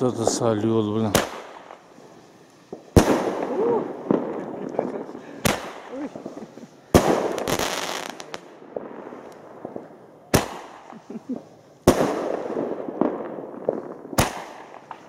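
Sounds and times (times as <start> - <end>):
firework bangs: 0.0 - 15.0.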